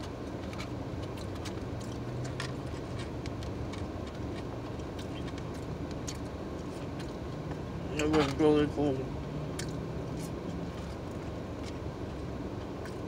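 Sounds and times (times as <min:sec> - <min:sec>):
person chewing food: 0:00.0 - 0:07.8, 0:09.2 - 0:13.0
car interior hum: 0:00.0 - 0:13.0.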